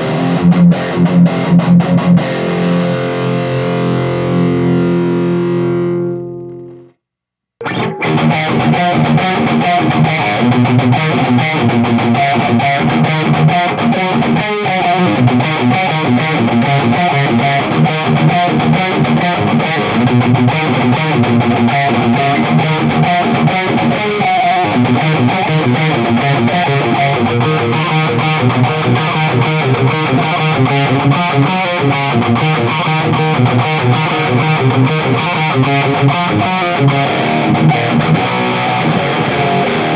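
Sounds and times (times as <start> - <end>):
distorted electric guitar riffs: 0.0 - 7.0, 7.6 - 39.9.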